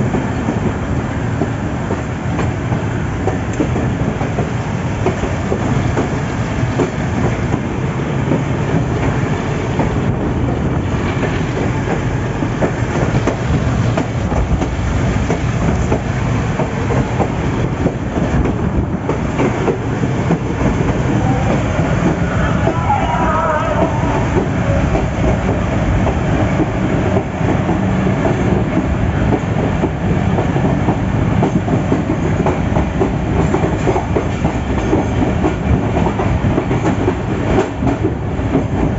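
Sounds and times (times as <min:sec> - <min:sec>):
train rumble: 0:00.0 - 0:38.9
wheels clacking over rails: 0:00.0 - 0:38.9.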